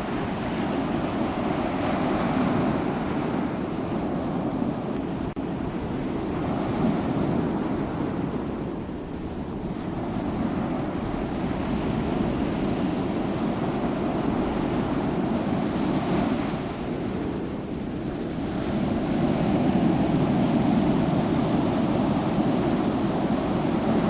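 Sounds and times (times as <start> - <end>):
sea waves washing onto shore: 0.0 - 24.0.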